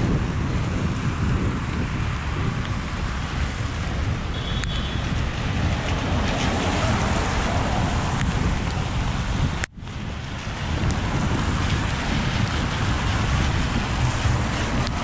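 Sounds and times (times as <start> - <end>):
traffic on wet road: 0.0 - 15.0
wind buffeting microphone: 0.0 - 15.0
rain hissing: 0.3 - 15.0.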